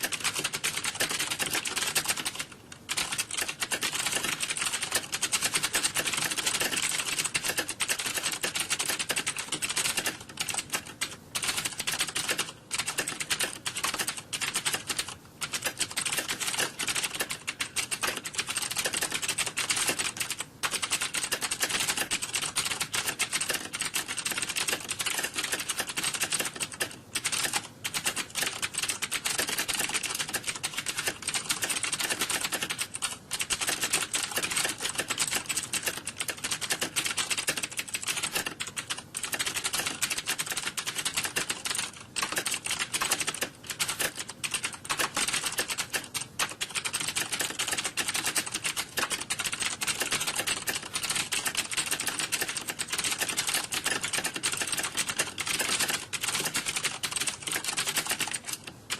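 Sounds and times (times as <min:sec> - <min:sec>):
rapid keyboard typing: 0:00.0 - 0:58.9.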